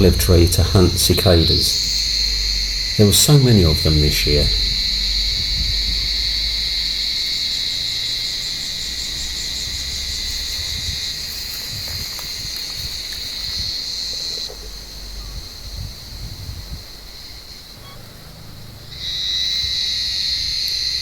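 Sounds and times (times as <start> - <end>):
cicadas buzzing: 0.0 - 21.0.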